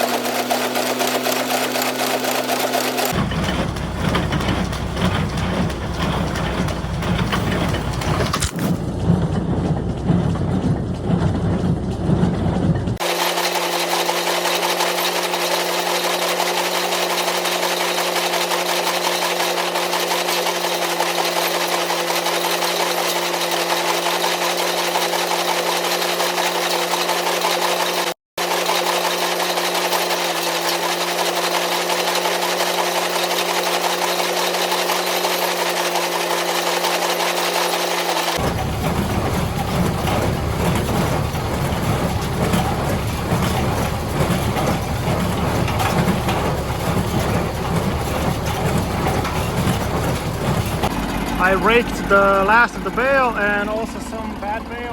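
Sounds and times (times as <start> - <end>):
rough engine noise: 0.0 - 54.9
tractor and baler running: 0.0 - 54.9.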